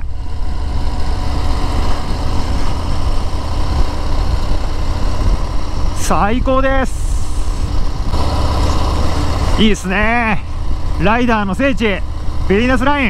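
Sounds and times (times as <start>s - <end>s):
wind rush on microphone: 0.0s - 11.2s
motorcycle engine cruising: 0.0s - 13.0s.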